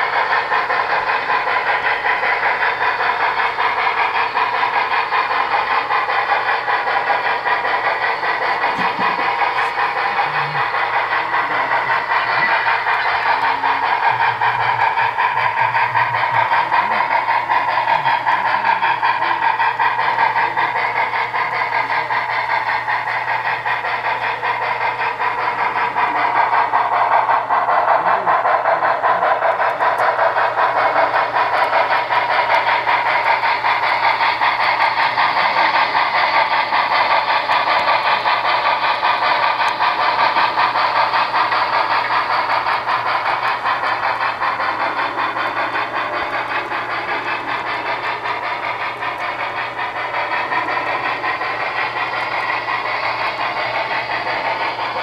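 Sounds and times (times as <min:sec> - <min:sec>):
model train clattering on track: 0:00.0 - 0:55.0.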